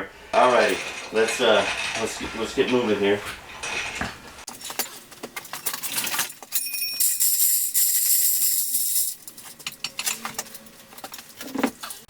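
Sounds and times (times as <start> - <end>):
metal tools clinking: 0.4 - 12.0.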